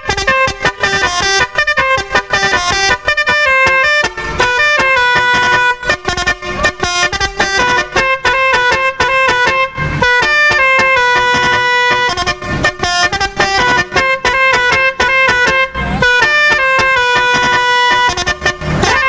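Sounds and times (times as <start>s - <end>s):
musical vehicle horn tune: 0.0s - 19.0s.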